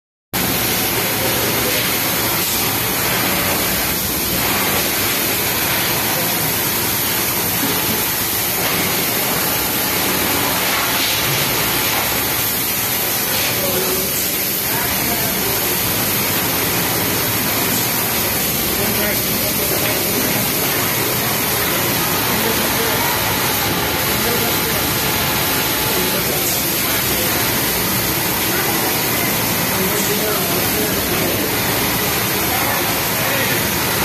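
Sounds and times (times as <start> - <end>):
industrial sewing machines running: 0.4 - 34.0.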